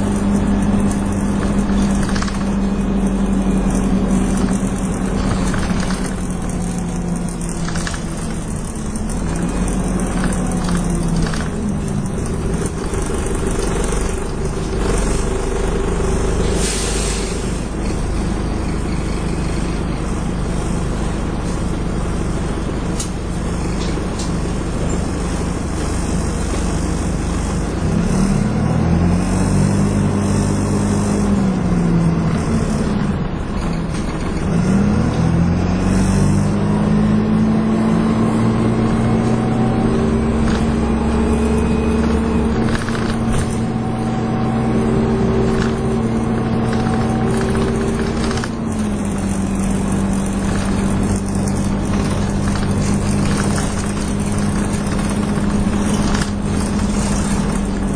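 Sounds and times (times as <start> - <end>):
bus engine revving: 0.0 - 57.9.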